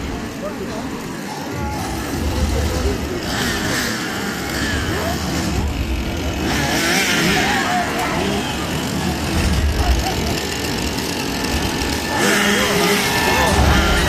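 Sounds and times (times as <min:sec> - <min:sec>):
chainsaw engines revving: 0:00.0 - 0:14.0
crowd voices: 0:00.0 - 0:14.0.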